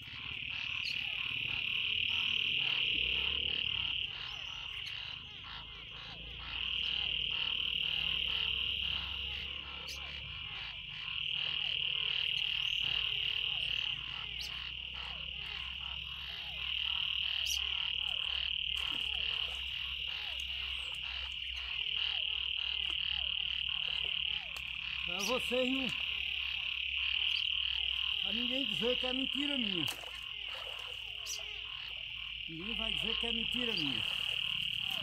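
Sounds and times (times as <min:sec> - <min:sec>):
frog trilling: 0:00.0 - 0:35.0
short frog calls: 0:00.0 - 0:35.0.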